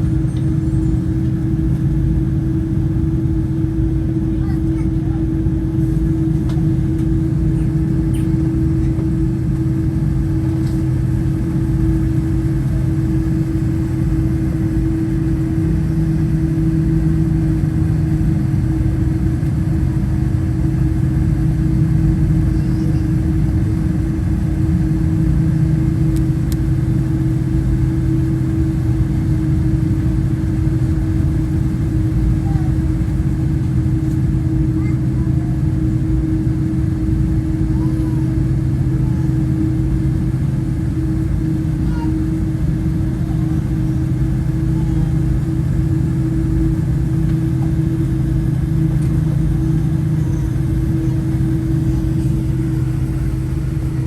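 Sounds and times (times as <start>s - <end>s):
airplane cabin droning hum: 0.0s - 54.0s.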